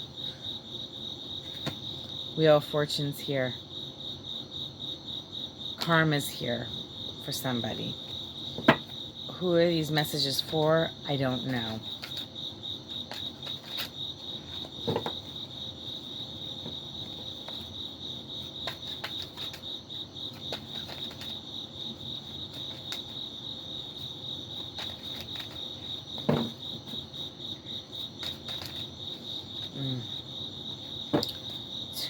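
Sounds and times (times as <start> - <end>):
cricket chirping: 0.0 - 32.0.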